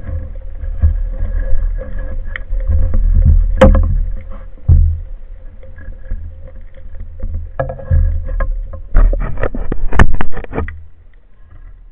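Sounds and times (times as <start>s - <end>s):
sharp knocks and clicks: 0.0s - 10.8s
faint steady hum: 0.0s - 11.9s
underwater rumble of water: 0.0s - 11.9s.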